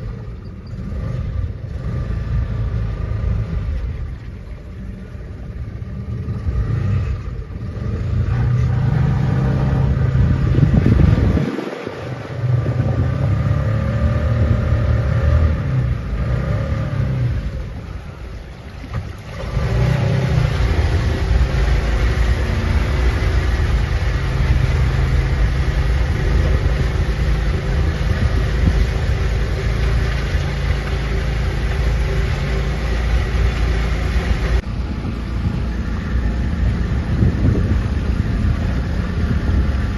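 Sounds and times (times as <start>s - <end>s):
boat motor rumbling: 0.0s - 39.9s.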